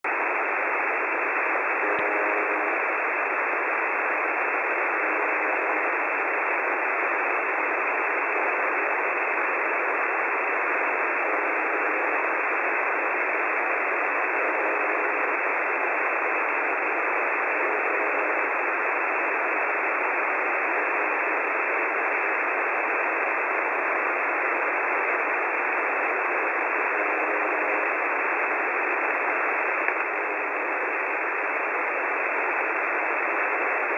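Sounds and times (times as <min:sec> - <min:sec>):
faint radio buzzes: 0:00.0 - 0:33.9
shortwave radio static hiss: 0:00.0 - 0:33.9.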